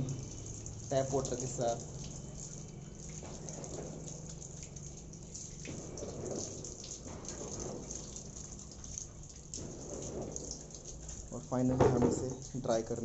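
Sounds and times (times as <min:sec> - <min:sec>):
tap water splashing into steel bowl: 0:00.0 - 0:12.5.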